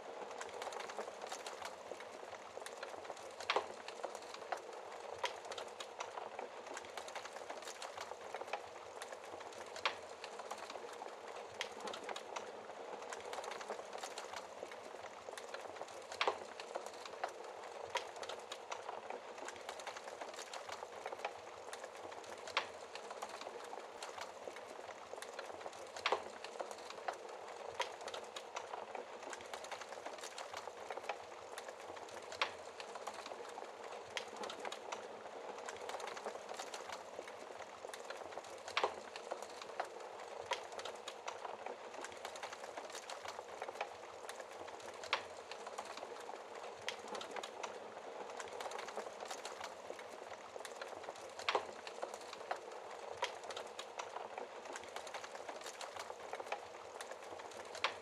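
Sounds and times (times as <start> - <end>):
fire crackling: 0.0 - 58.0
fire popping: 0.1 - 58.0.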